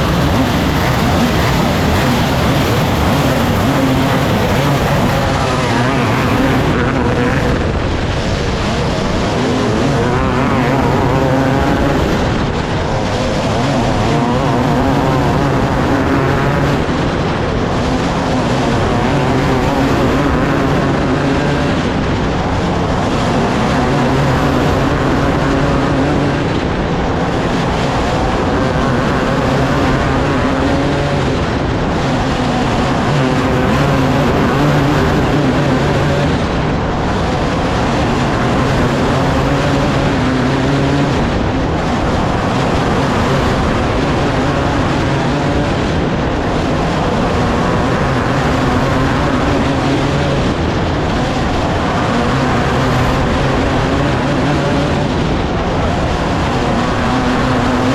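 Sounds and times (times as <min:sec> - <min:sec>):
race car engines: 0:00.0 - 0:57.9.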